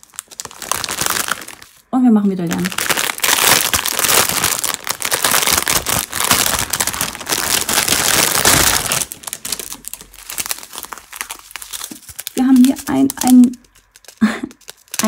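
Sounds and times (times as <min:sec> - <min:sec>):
plastic bags crinkling: 0:00.0 - 0:01.8, 0:02.4 - 0:15.0.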